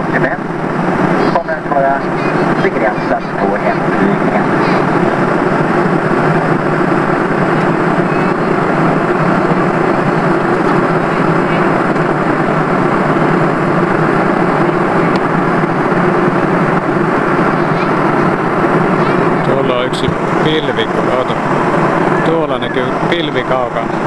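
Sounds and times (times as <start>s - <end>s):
jet airliner cabin noise: 0.0s - 24.0s.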